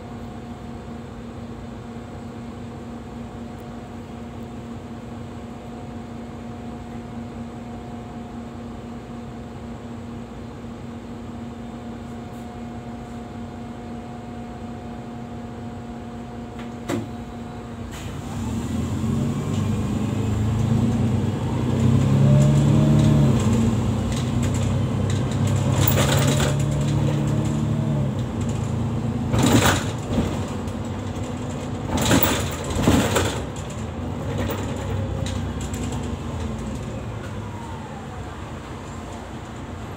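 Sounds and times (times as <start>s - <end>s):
bus engine idling and accelerating: 0.0s - 39.9s.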